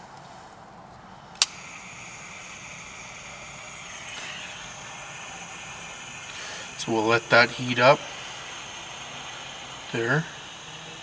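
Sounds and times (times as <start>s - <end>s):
hiss of burning gas: 1.4s - 11.0s
igniter click: 1.4s - 11.0s.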